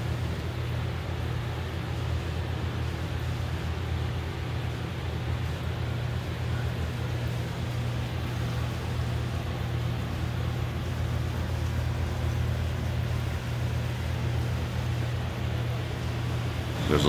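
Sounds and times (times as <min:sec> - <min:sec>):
low machine hum with hiss: 0:00.0 - 0:17.0.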